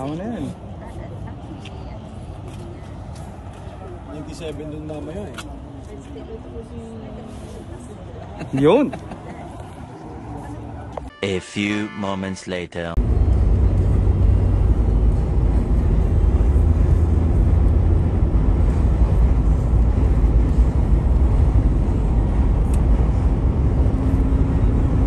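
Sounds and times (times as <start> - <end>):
vehicle engine and road noise: 0.0 - 11.1, 12.6 - 25.0.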